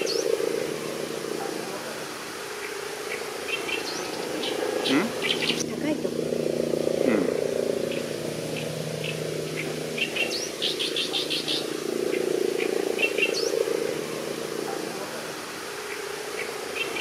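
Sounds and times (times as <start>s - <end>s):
continuous low drone: 0.0s - 17.0s
warbler singing: 0.0s - 17.0s.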